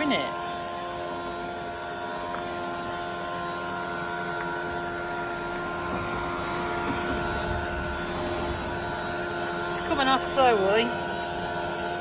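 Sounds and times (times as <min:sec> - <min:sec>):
leaf blower running: 0:00.0 - 0:12.0.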